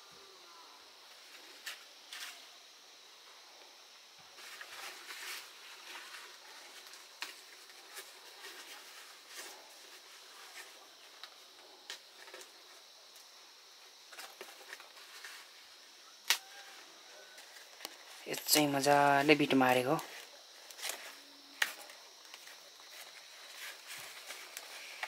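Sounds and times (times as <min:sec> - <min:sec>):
leaves rustling and crinkling: 0:00.9 - 0:02.7, 0:04.2 - 0:25.0.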